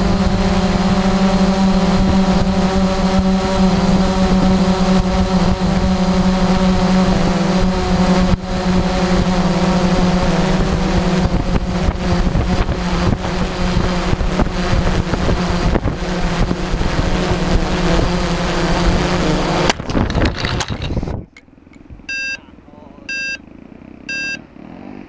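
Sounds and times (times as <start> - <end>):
wind rushing over microphone: 0.0 - 22.1
drone motors whining: 0.0 - 22.4, 23.0 - 24.6.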